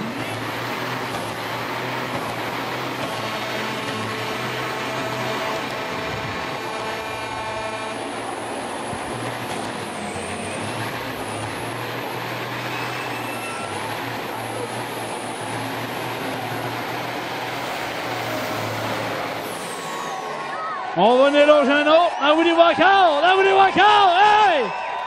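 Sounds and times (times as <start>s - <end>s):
diesel truck engine revving: 0.0s - 22.2s.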